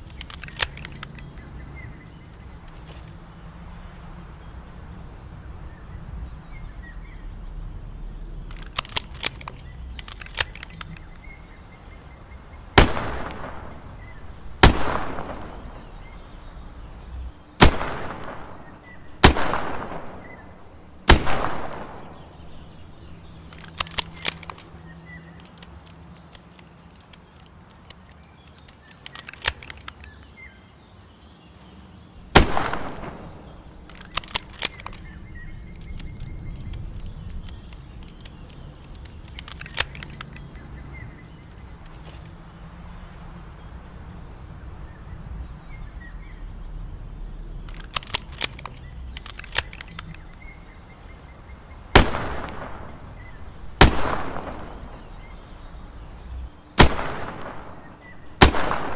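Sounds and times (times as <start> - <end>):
light metallic clicks: 0.0 - 3.5, 8.4 - 30.5, 32.4 - 42.8, 47.3 - 58.9.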